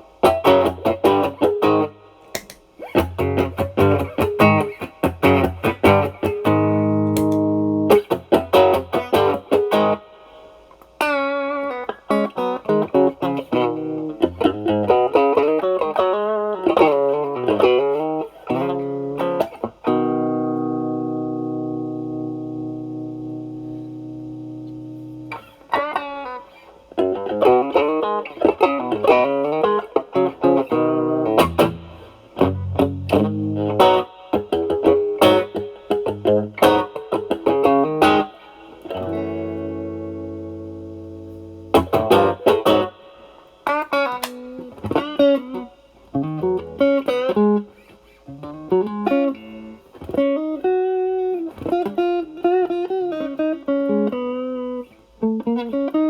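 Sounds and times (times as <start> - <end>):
overdriven electric guitar blues licks: 0.0 - 56.0.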